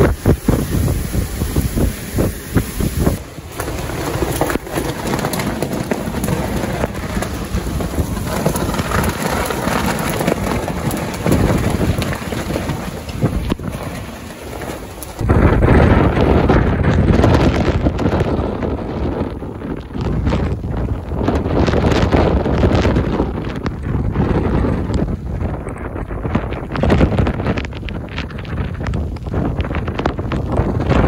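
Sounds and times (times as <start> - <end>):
heavy rain: 0.0 - 31.0
hurricane wind: 0.0 - 31.0
wind gusts buffeting microphone: 0.0 - 31.0.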